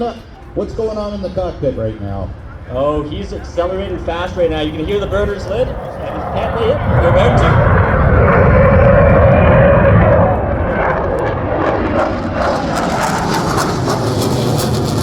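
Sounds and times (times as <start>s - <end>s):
jet engines with afterburners: 0.0s - 15.0s.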